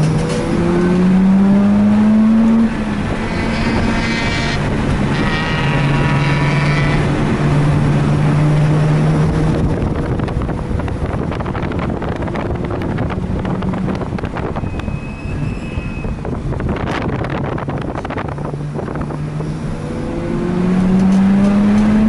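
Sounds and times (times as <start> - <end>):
rotary engine revving: 0.0 - 22.0
wind buffeting microphone: 0.0 - 22.0.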